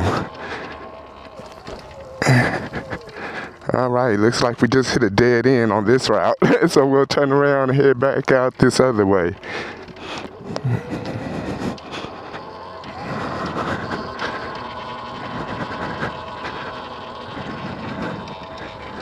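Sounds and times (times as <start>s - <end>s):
electric motor whine: 0.0s - 4.2s, 7.8s - 19.0s
bike rattling over bumps: 0.0s - 19.0s.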